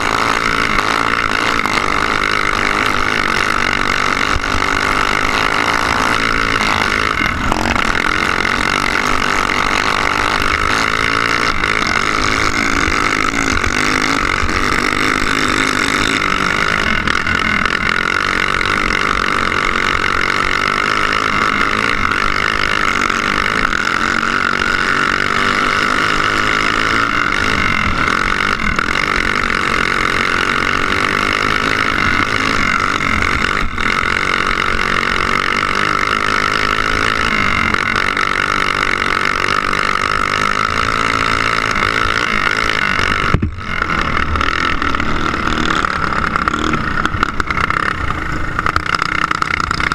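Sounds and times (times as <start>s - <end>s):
go-kart engine revving: 0.0s - 49.9s.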